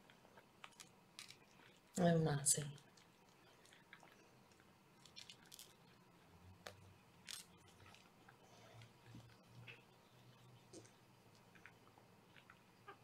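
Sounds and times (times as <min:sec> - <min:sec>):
faint rustles and ticks: 0:00.0 - 0:13.0.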